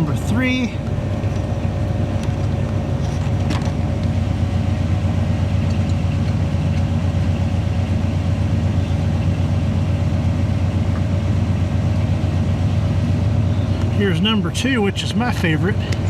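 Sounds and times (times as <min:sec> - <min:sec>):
mid-pitched hum: 0:00.0 - 0:16.0
pickup engine idling: 0:00.0 - 0:16.0.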